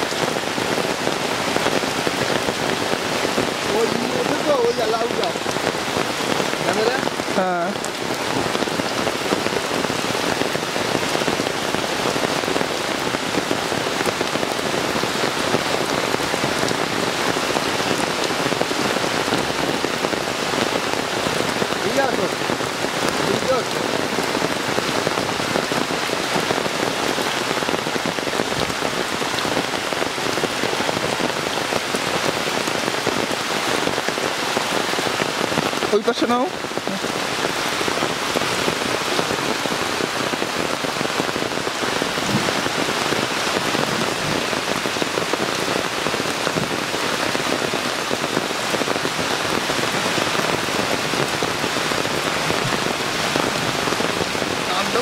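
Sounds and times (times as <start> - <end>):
heavy rain on water: 0.0 - 55.0.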